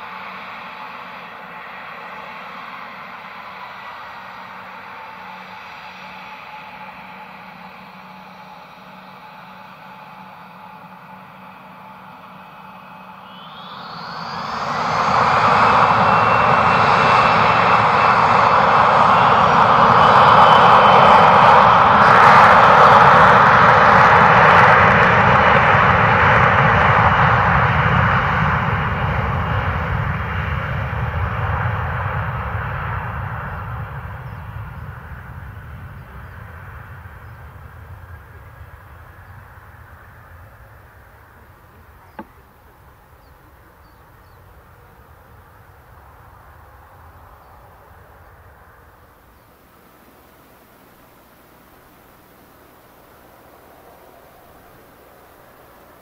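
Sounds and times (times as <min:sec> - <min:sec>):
jet engines roaring with whine: 0:00.0 - 0:56.0.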